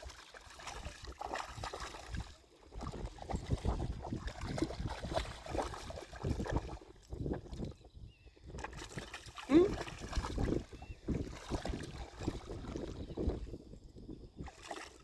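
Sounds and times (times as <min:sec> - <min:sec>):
dog splashing in shallow water: 0:00.0 - 0:07.8, 0:08.5 - 0:13.4, 0:14.4 - 0:15.0.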